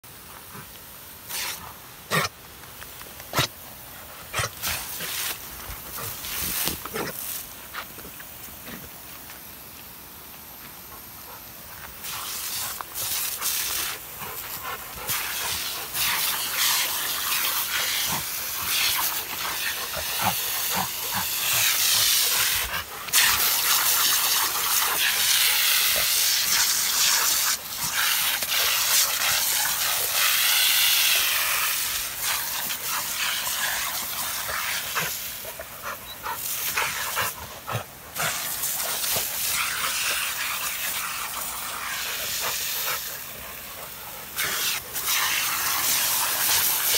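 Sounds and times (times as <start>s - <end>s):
dogs moving through spray: 0.0s - 46.9s
lawn sprinklers hissing: 0.0s - 46.9s.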